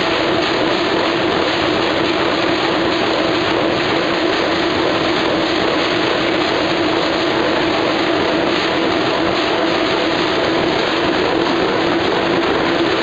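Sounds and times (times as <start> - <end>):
production line machine din: 0.0 - 13.0.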